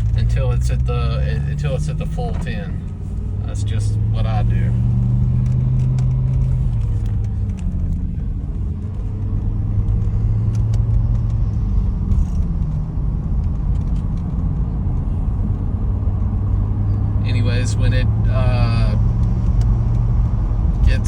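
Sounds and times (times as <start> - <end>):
car engine droning: 0.0 - 21.0
road rumble: 0.0 - 21.0.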